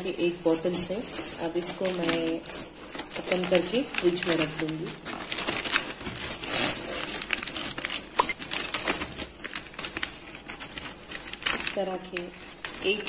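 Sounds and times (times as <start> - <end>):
plastic shrink-wrap crinkling and tearing: 0.0 - 13.0.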